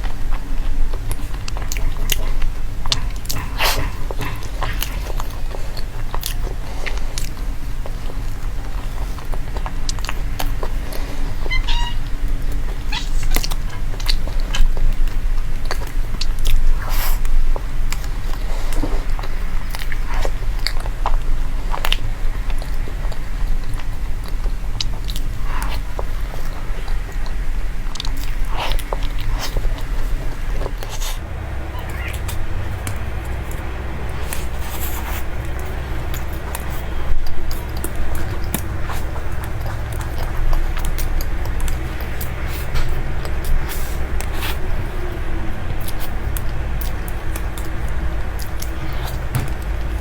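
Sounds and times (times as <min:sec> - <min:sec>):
crunching and chewing: 0:00.0 - 0:50.0.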